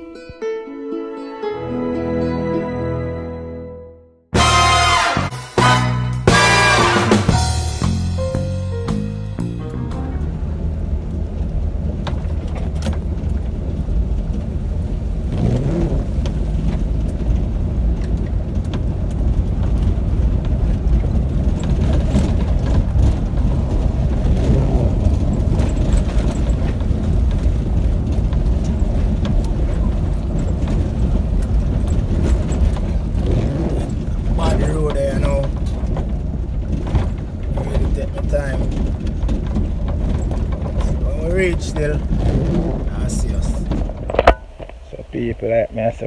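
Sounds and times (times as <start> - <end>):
engine and road noise rumble: 4.4 - 46.0.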